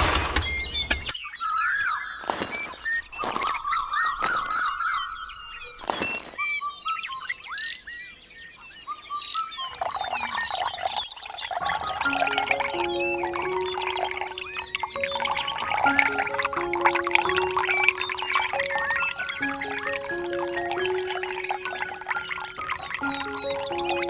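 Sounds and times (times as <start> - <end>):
birds chirping and calling: 0.4 - 24.0.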